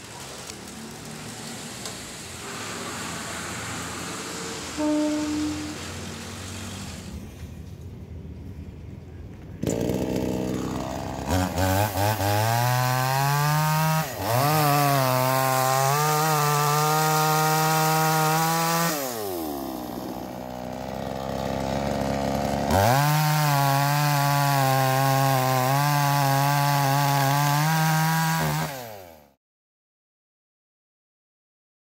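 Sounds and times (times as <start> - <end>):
chainsaw revving and cutting logs: 0.0 - 7.2, 9.6 - 29.4.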